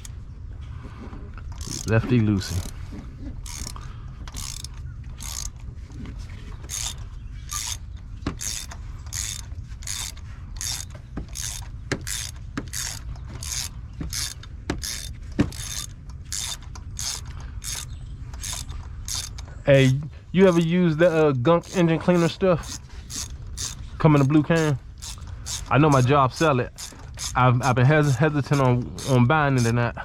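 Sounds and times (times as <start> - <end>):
ratchet wrench clicking: 1.5 - 2.7, 3.4 - 5.6, 6.7 - 29.8.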